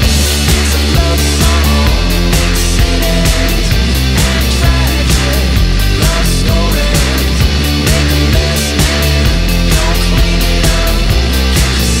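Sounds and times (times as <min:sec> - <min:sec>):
rock song playing: 0:00.0 - 0:12.0
steady drum beat: 0:00.0 - 0:12.0.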